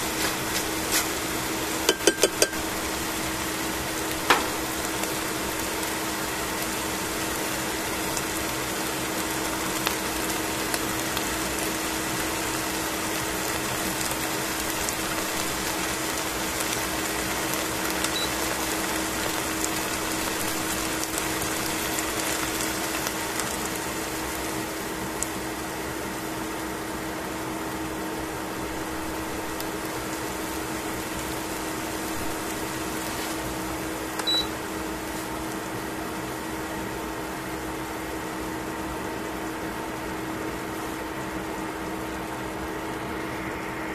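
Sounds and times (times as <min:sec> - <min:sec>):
food sizzling in oil: 0:00.0 - 0:43.9.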